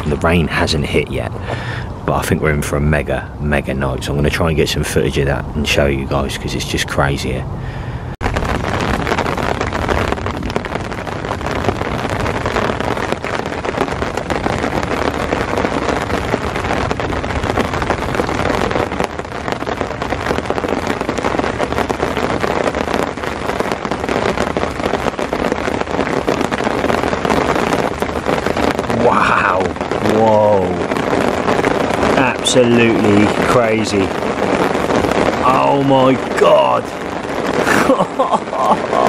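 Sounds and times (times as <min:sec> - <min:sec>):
heavy rain downpour: 0:00.0 - 0:39.0.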